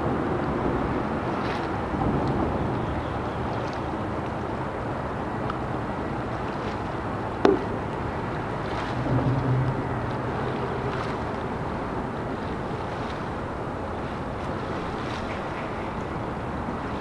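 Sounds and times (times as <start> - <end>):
boat engine humming: 0.0 - 17.0
water noise: 0.0 - 17.0
wind: 0.0 - 17.0.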